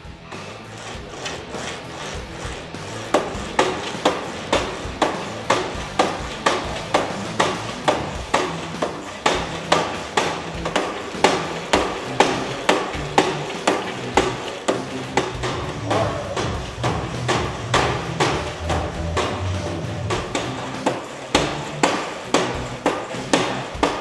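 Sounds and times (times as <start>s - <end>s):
climbing machine clacking: 0.0s - 24.0s.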